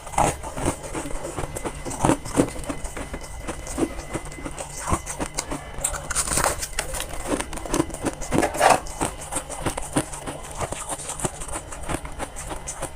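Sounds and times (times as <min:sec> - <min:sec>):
chewing crunchy ice: 0:00.0 - 0:12.9.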